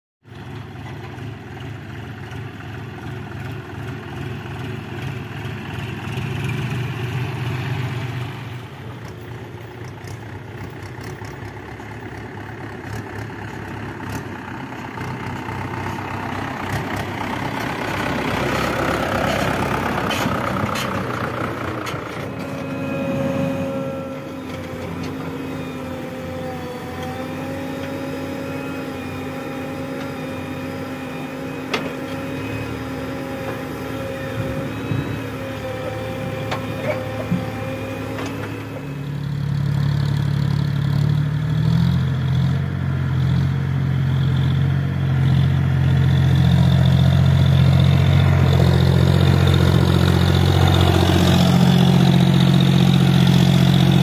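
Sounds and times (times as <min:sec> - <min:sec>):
diesel engine with whine: 0:00.2 - 0:54.0
tractor engines running: 0:00.2 - 0:54.0.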